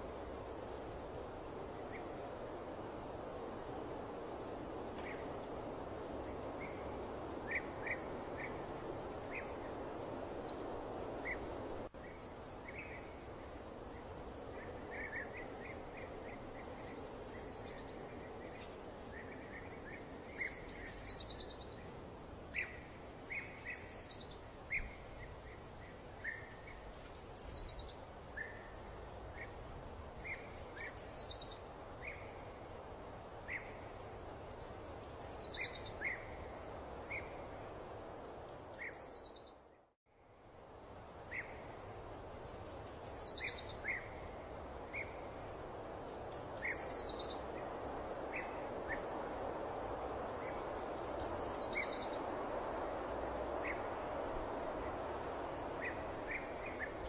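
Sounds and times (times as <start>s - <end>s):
wild birds singing: 0.0s - 39.9s, 40.7s - 57.0s.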